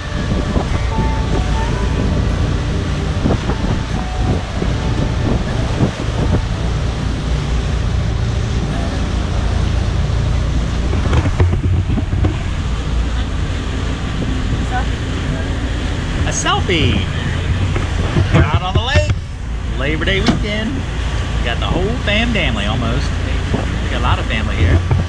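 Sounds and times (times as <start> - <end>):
motorboat engine rumble: 0.0 - 25.0
wind noise on microphone: 0.0 - 25.0.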